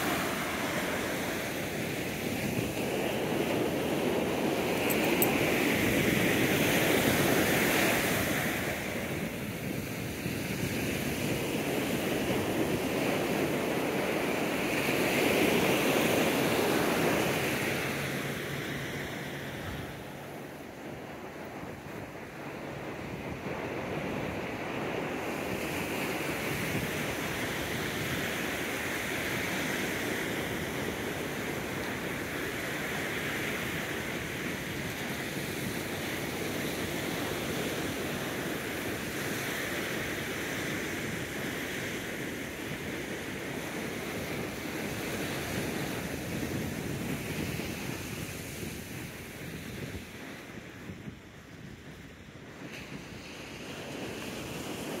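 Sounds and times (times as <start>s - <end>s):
ocean surf washing ashore: 0.0s - 55.0s
wind buffeting microphone: 0.0s - 55.0s.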